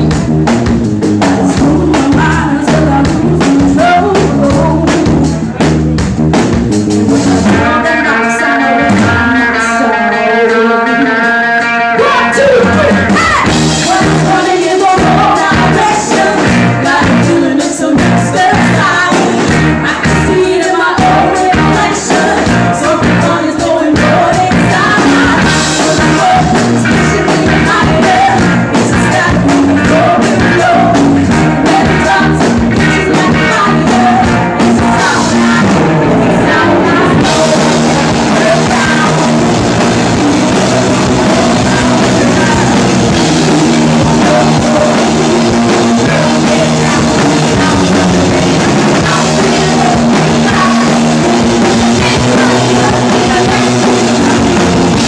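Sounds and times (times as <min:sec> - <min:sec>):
drums: 0:00.0 - 0:55.0
live rock band playing: 0:00.0 - 0:55.0
person singing: 0:01.2 - 0:05.7, 0:07.1 - 0:55.0.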